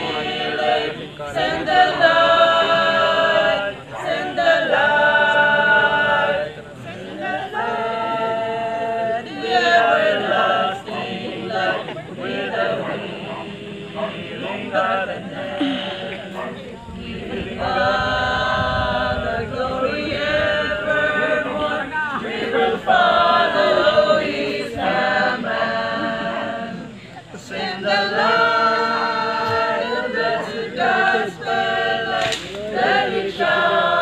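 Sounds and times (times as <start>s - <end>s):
group singing unaccompanied: 0.0s - 34.0s.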